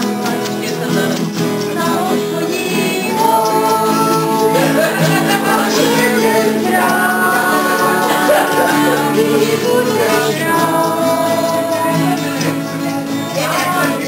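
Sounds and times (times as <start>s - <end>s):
acoustic guitar: 0.0s - 14.0s
group of people singing: 0.0s - 14.0s.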